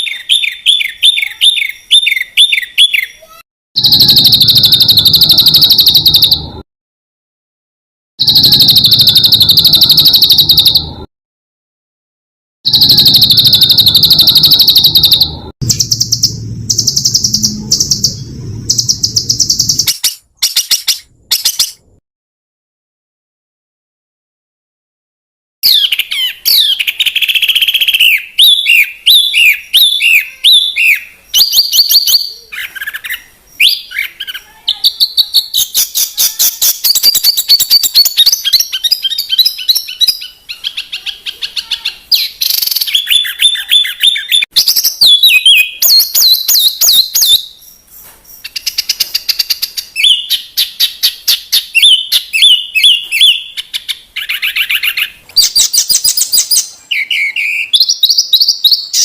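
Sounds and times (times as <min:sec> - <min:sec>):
songbird singing: 0:00.0 - 0:06.6, 0:12.7 - 0:21.9, 0:25.6 - 0:59.0.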